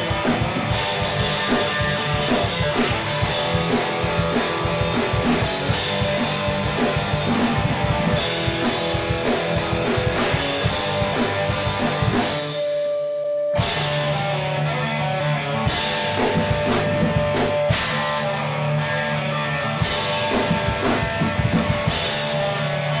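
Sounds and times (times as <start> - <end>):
instrumental rock music: 0.0 - 23.0.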